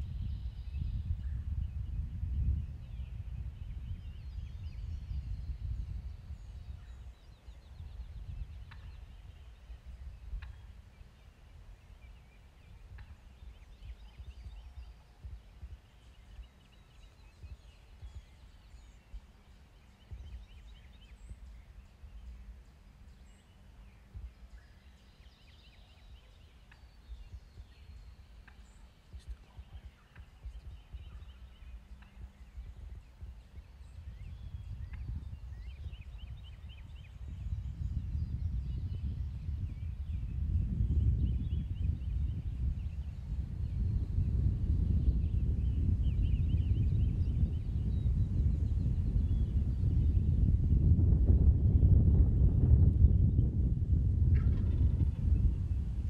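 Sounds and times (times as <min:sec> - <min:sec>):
songbirds chirping: 0:00.0 - 0:56.0
wind rumbling on microphone: 0:00.0 - 0:56.0.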